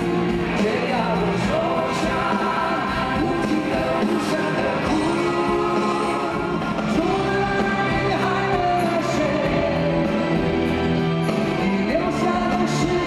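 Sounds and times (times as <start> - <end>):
rock band with guitars: 0.0 - 13.0
man singing: 0.4 - 13.0.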